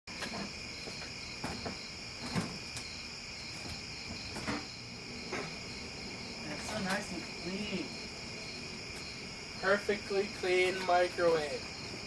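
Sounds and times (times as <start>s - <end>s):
high-pitched insect chorus: 0.1s - 12.0s.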